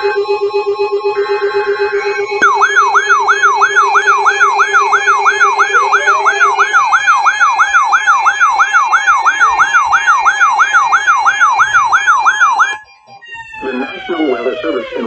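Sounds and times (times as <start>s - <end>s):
warbling alert siren: 0.0s - 15.0s.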